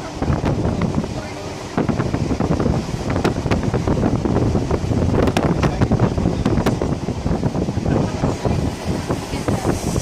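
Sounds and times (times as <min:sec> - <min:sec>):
train carriage running rumble: 0:00.0 - 0:10.0
wind rushing against microphone: 0:00.0 - 0:10.0.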